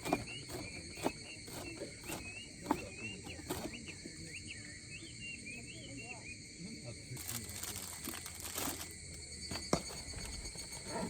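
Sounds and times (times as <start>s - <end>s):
crickets chorus: 0.0s - 11.0s.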